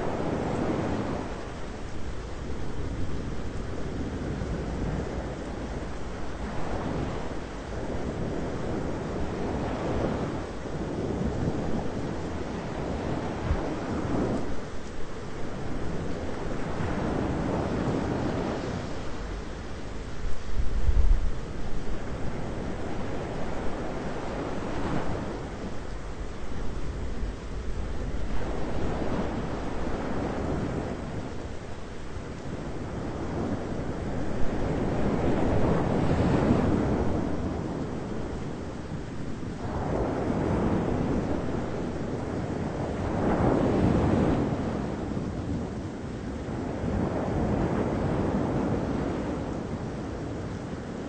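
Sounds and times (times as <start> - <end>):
rain: 0.0 - 51.0
steady noisy wash: 0.0 - 51.0
wind: 0.0 - 51.0.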